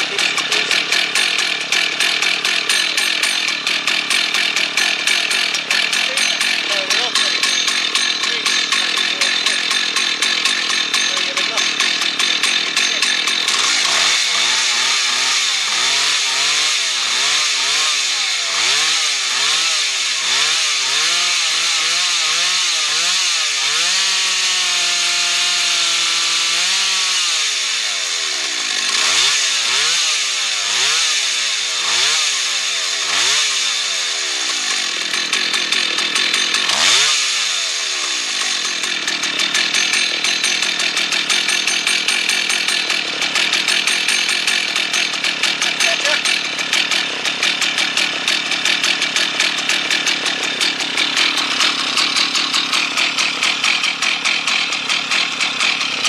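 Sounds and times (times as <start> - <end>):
chainsaw engine revving: 0.0 - 56.0.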